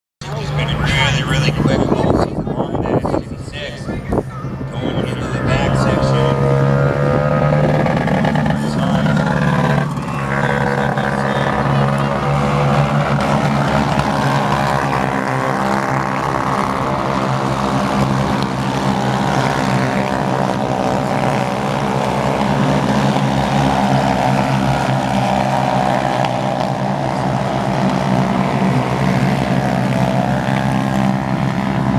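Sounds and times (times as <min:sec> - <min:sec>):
race engines droning: 0:00.2 - 0:31.9.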